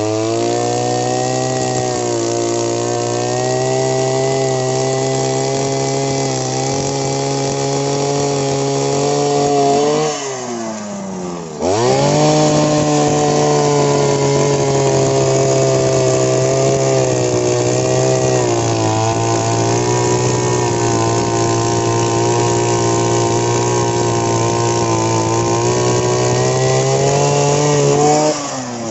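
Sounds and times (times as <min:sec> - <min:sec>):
small engine revving: 0:00.0 - 0:28.9.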